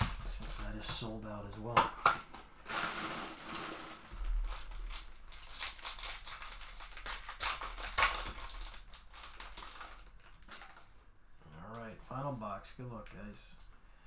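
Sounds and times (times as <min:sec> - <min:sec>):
cards and packaging rustling: 0:00.0 - 0:13.7.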